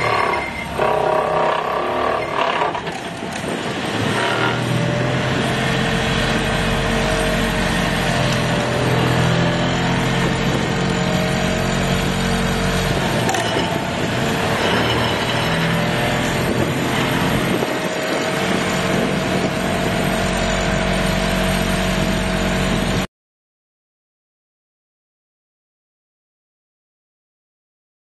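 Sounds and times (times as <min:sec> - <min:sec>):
excavator diesel engine: 0:00.0 - 0:23.1
vibratory pile hammer: 0:00.0 - 0:23.1.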